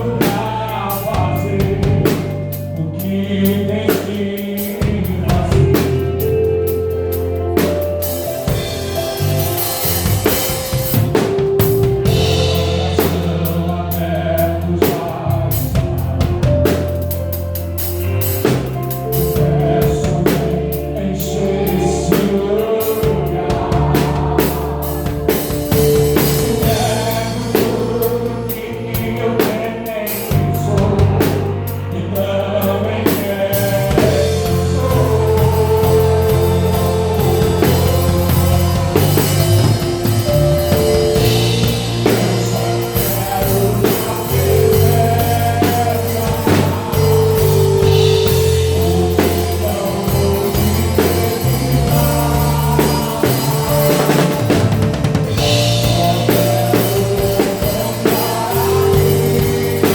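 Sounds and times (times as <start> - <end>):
drum kit steady beat: 0.0 - 32.0, 32.6 - 59.9
bass guitar low notes: 0.0 - 59.9
gospel band playing: 0.0 - 59.9
voices singing: 0.0 - 59.9.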